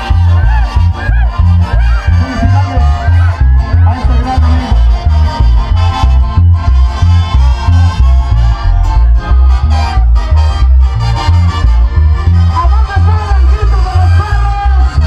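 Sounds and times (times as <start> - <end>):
bouncing bass line: 0.0 - 15.0
latin dance band music: 0.0 - 15.0.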